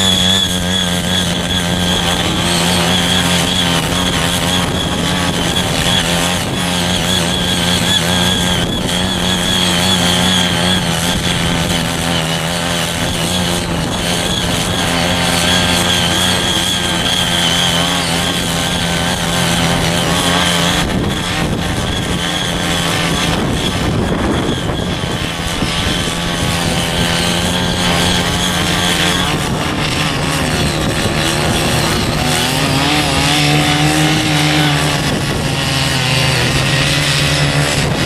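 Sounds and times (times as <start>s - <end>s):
rotary tines tilling soil: 0.0s - 38.0s
small cultivator engine running: 0.0s - 38.0s.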